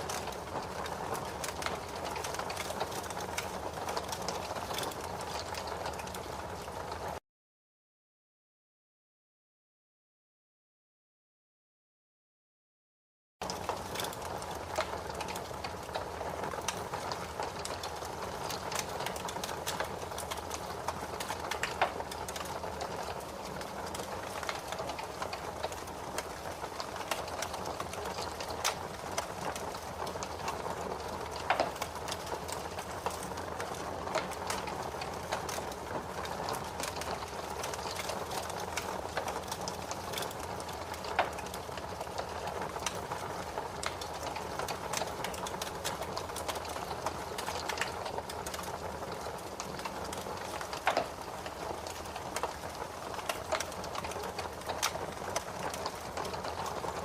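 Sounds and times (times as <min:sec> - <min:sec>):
fire crackling in a fireplace: 0:00.0 - 0:07.2, 0:13.4 - 0:57.0.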